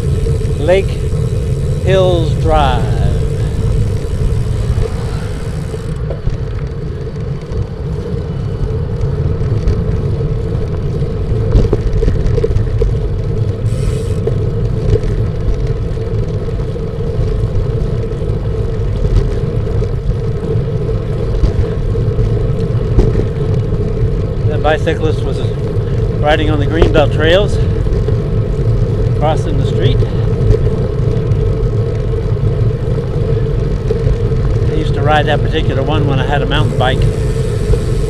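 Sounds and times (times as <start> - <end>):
low hum: 0.0 - 38.0
wind buffeting microphone: 0.0 - 38.0.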